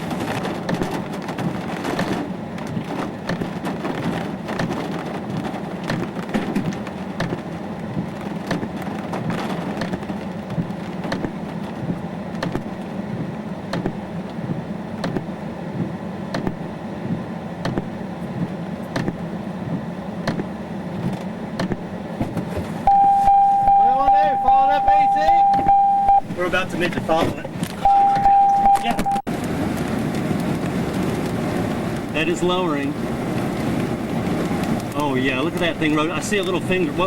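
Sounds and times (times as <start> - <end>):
car road and engine rumble: 0.0 - 37.0
rain drops hitting car: 0.0 - 37.0.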